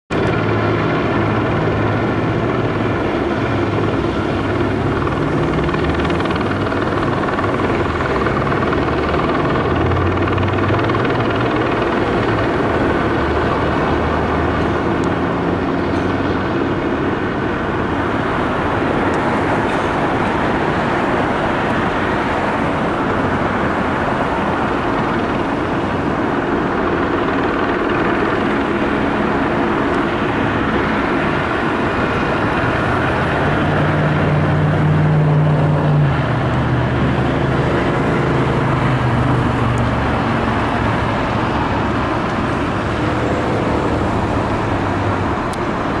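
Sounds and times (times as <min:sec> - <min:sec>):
deep engine drone: 0:00.1 - 0:46.0
helicopter hovering: 0:00.1 - 0:46.0
road traffic: 0:00.1 - 0:46.0.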